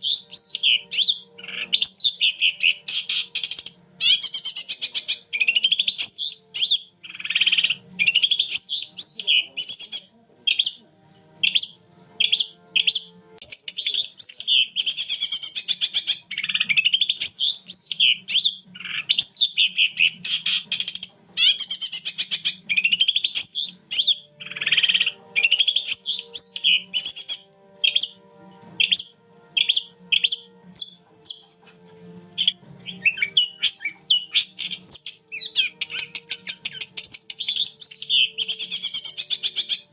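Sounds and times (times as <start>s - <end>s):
shrike singing chirps and trills: 0.0s - 10.8s, 11.4s - 31.8s, 32.4s - 39.9s.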